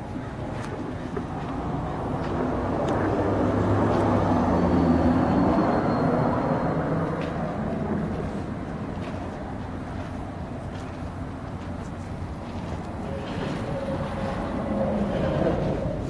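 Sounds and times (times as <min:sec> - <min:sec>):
passing vehicle engine hum: 0:00.0 - 0:10.6, 0:12.8 - 0:16.0.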